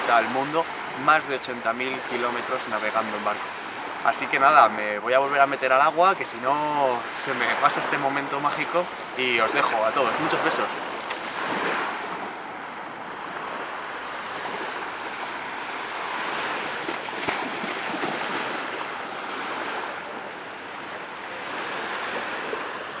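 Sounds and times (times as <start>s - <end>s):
waves washing onto sandy beach: 0.0s - 23.0s.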